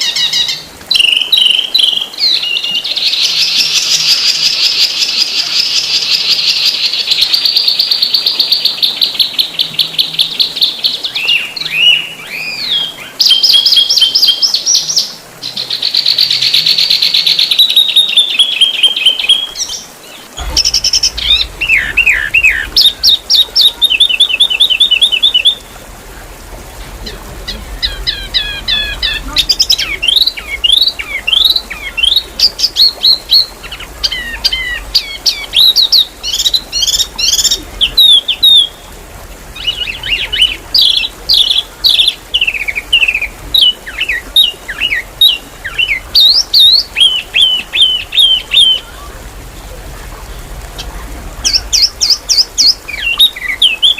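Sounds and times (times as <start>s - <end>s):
songbird singing trills: 0.0s - 25.9s, 26.8s - 38.9s, 39.6s - 48.9s
background hiss: 0.0s - 53.9s.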